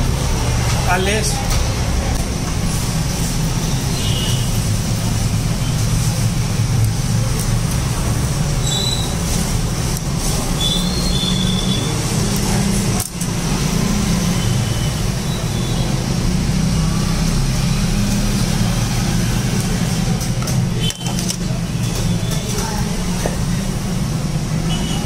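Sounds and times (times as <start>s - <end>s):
roadside traffic rumble: 0.0s - 25.0s.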